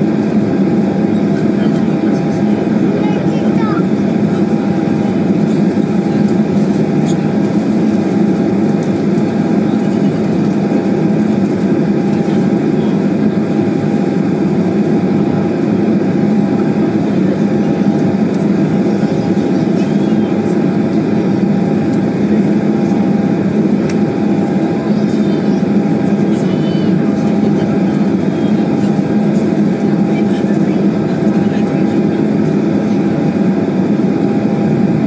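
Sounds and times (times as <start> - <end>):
jet engines humming in cabin: 0.0 - 35.0.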